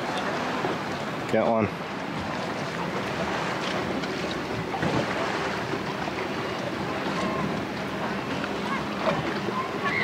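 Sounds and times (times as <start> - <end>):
water lapping against boat: 0.0 - 10.0.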